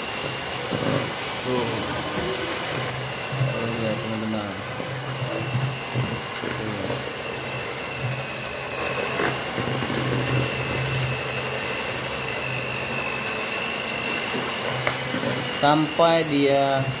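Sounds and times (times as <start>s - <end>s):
electric hand mixer whining: 0.0s - 17.0s.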